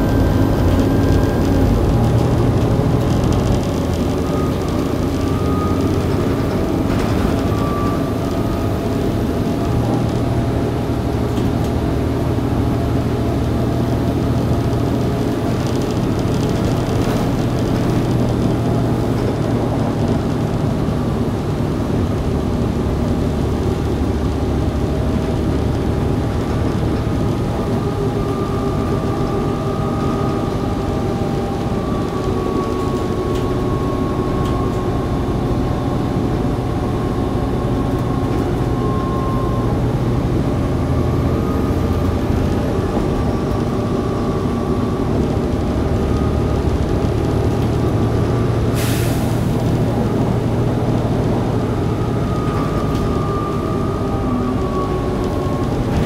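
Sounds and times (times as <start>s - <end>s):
bus engine low drone: 0.0s - 56.0s.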